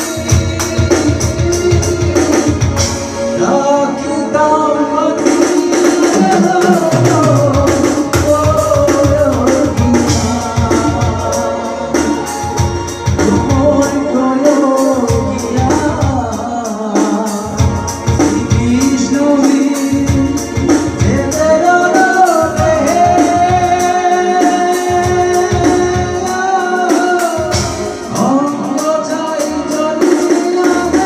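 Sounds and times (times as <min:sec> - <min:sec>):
percussion beat: 0:00.0 - 0:03.2, 0:05.2 - 0:31.0
person singing folk song: 0:00.0 - 0:12.3, 0:13.0 - 0:31.0
electronic keyboard: 0:00.0 - 0:31.0.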